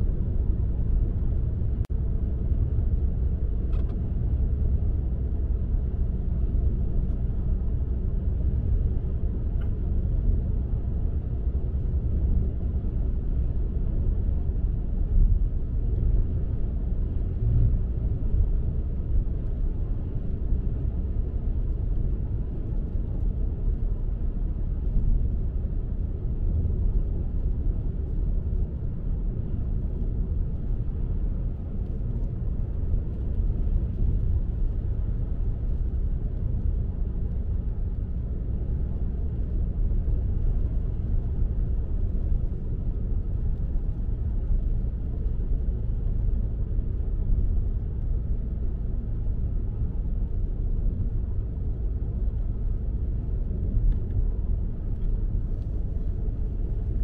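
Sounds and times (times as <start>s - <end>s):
car road rumble: 0.0s - 57.0s.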